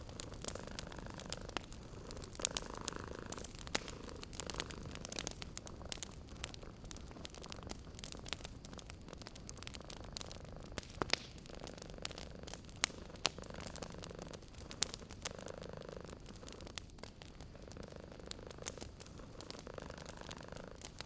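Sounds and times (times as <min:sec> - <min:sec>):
cat purring: 0:00.0 - 0:21.0
wood fire crackling: 0:00.0 - 0:21.0.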